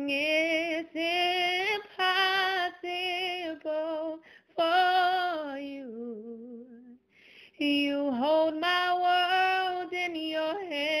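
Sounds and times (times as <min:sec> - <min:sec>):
woman singing a slow song: 0:00.0 - 0:11.0.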